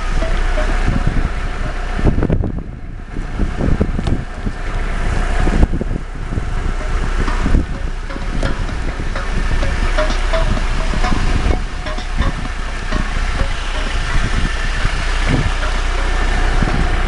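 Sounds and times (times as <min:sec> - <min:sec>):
road and engine rumble: 0:00.0 - 0:17.0
wind noise on microphone: 0:00.0 - 0:17.0.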